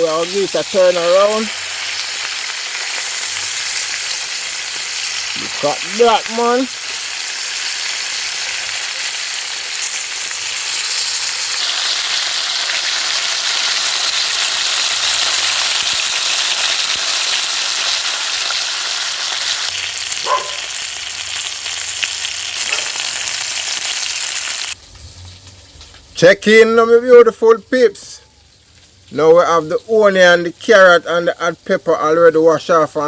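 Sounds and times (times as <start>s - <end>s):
fish sizzling in hot oil: 0.0s - 26.2s, 28.3s - 29.8s.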